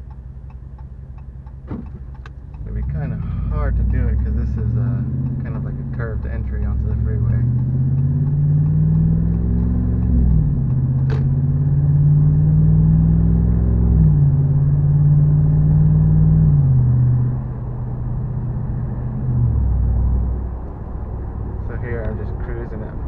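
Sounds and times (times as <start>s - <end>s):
car engine accelerating hard: 1.6s - 23.0s.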